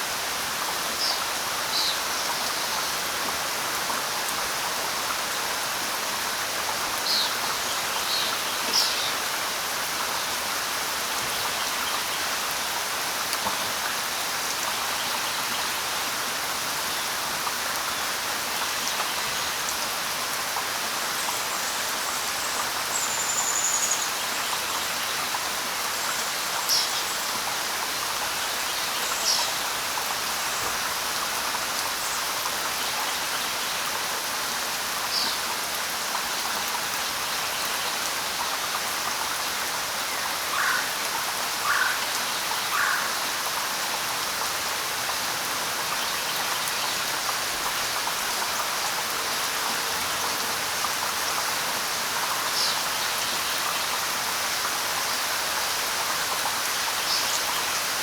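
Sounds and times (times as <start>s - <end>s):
light rain on leaves: 0.0s - 58.0s.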